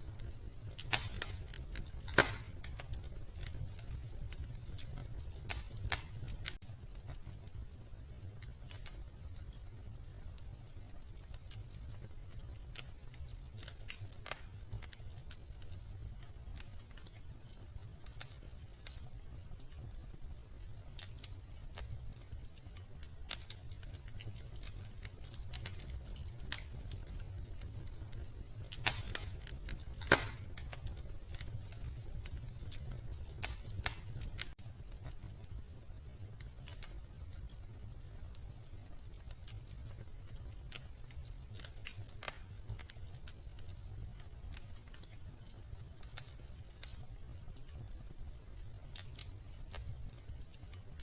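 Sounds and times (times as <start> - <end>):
loud fire pops: 0.0 - 51.0
wood fire crackling: 0.0 - 51.0.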